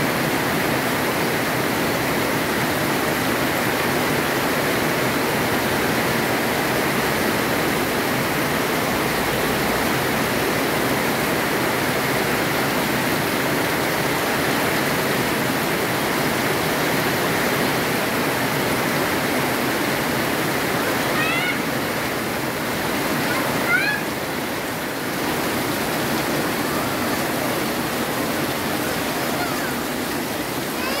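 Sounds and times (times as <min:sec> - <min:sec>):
heavy rain on trees: 0:00.0 - 0:31.0.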